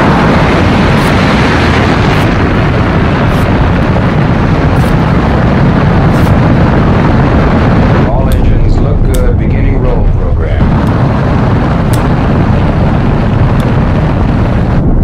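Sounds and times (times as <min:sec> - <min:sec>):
rocket engine rumble with crackle: 0:00.0 - 0:15.0.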